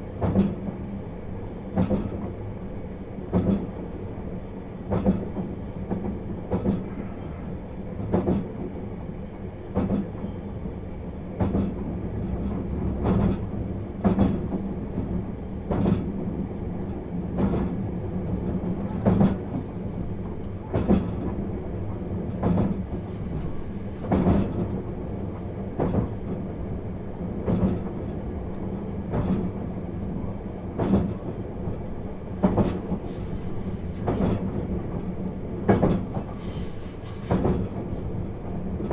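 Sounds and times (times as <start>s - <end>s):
train rumble and hum: 0.0s - 38.9s.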